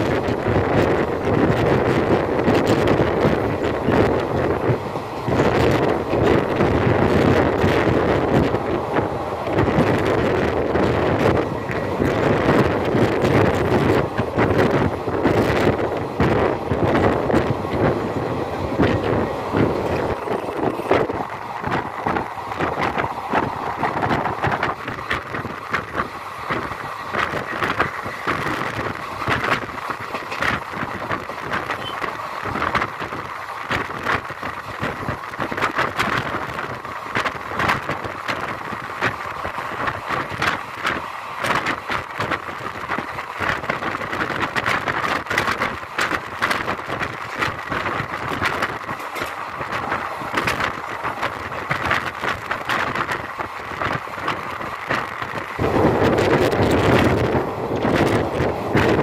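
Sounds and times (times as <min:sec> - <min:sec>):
train clattering and rattling: 0:00.0 - 0:59.0
train wheels on rails: 0:00.0 - 0:59.0.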